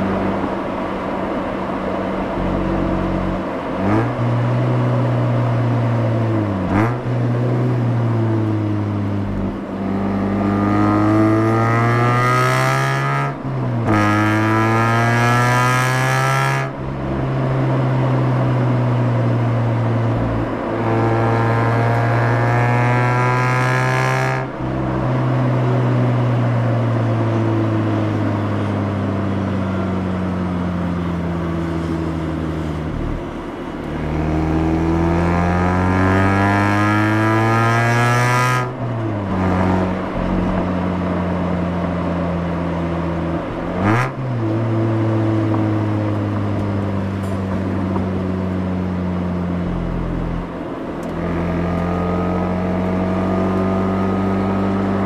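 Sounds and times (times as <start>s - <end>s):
rotary engine exhaust note: 2.2s - 55.0s.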